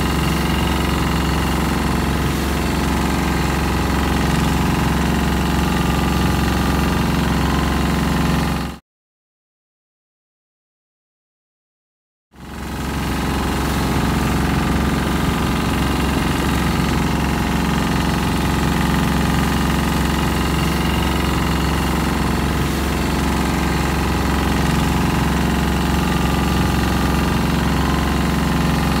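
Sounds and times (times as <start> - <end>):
rush of wind and water: 0.0 - 8.3, 12.6 - 29.0
boat engine running: 0.0 - 8.8, 12.4 - 29.0.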